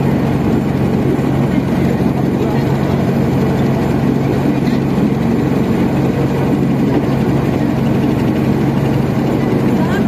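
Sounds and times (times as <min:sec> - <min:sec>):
motorboat engine droning: 0:00.0 - 0:10.0.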